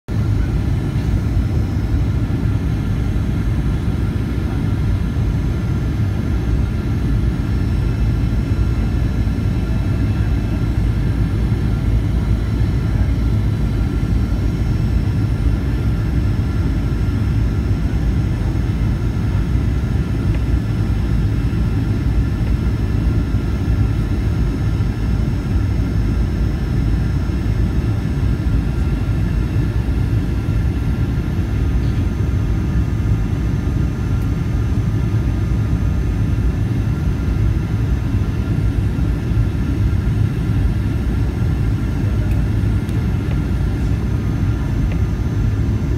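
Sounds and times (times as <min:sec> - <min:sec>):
airplane cabin rumble: 0:00.1 - 0:45.9
faint steady whine: 0:00.1 - 0:45.9.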